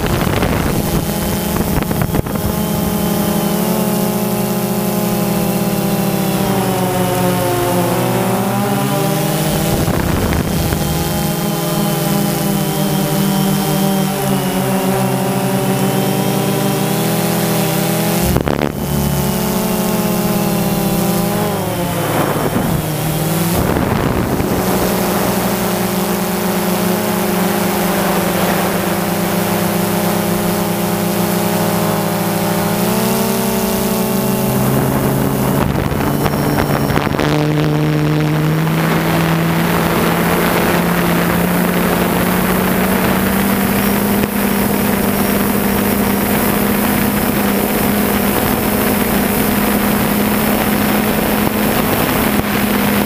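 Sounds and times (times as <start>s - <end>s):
drone motors buzzing: 0.0s - 53.0s.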